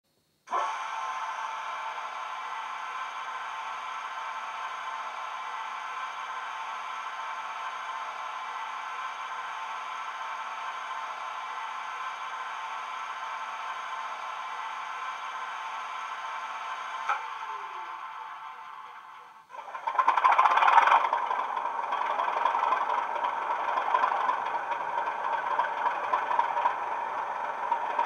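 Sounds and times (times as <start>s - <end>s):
model diesel engine idling: 1.0s - 28.0s.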